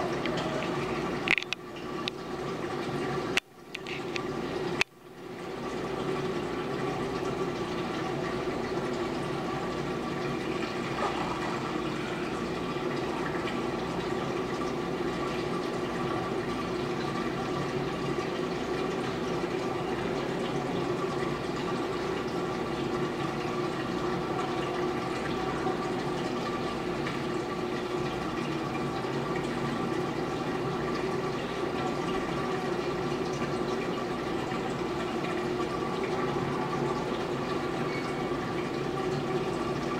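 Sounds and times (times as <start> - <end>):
aquarium water rushing and trickling: 0.0 - 39.9
pump hum: 0.0 - 39.9.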